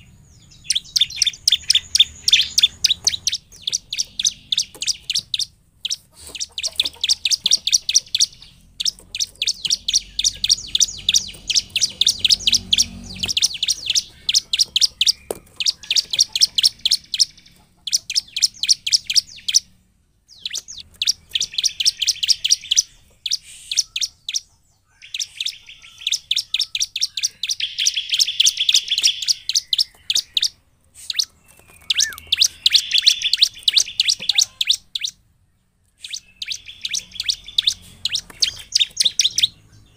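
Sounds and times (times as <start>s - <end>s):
bird singing chipping notes: 0.0s - 39.9s.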